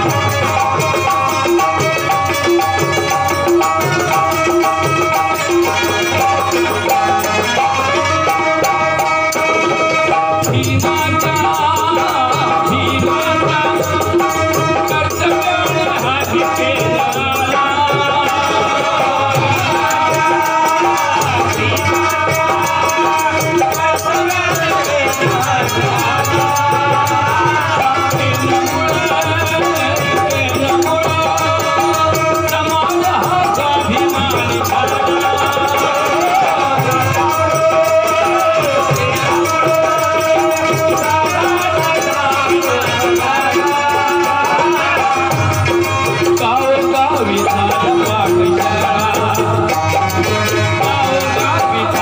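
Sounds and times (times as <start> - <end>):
harmonium playing chords: 0.0 - 52.0
man singing: 0.0 - 52.0
rattling hand percussion: 0.0 - 52.0.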